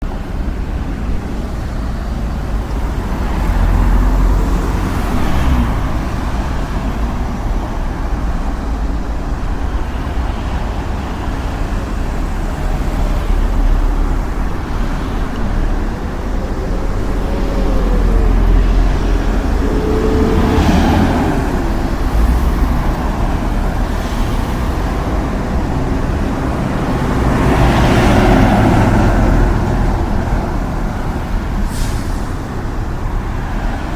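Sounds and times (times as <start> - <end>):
road traffic rumble: 0.0 - 33.9
vehicles passing by: 0.0 - 33.9.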